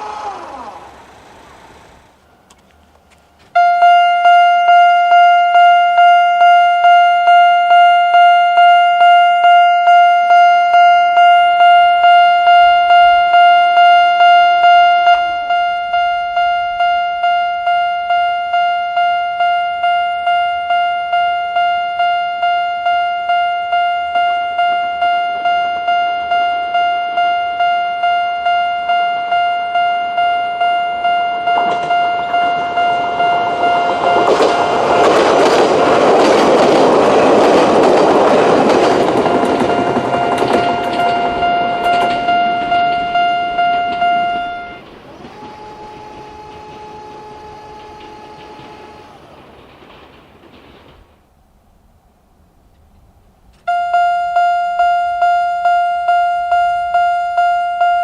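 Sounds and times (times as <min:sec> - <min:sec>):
approaching train: 0:00.0 - 0:58.0
level-crossing warning bell: 0:03.5 - 0:51.2, 0:53.7 - 0:58.0.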